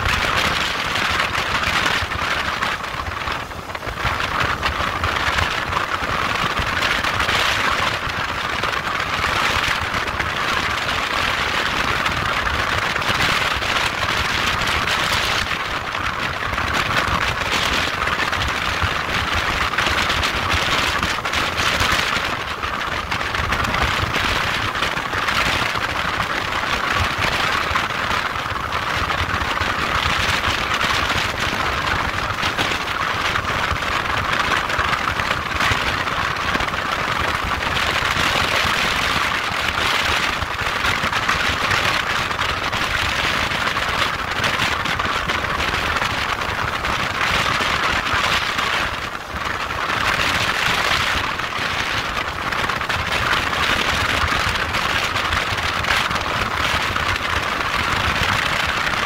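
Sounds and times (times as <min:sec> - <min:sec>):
motorcycle wind and road noise: 0:00.0 - 0:59.0.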